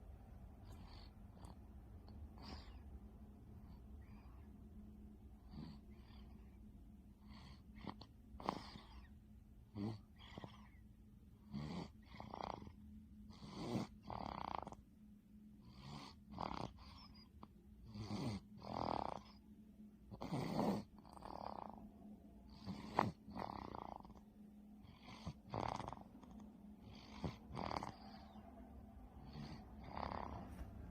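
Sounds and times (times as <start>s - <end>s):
baby snoring softly: 0.6s - 3.0s, 3.6s - 4.6s, 5.4s - 14.8s, 15.6s - 19.5s, 20.1s - 30.9s.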